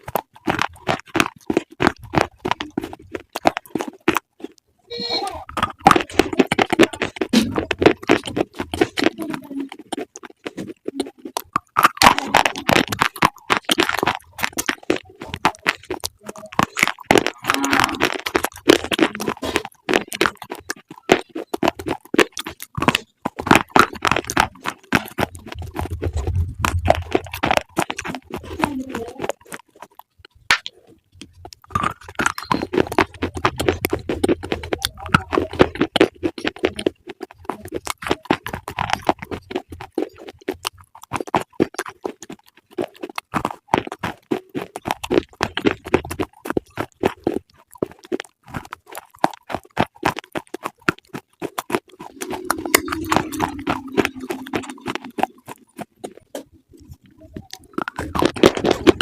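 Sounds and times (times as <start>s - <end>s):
crunching and chewing crisp food: 0.0s - 59.0s.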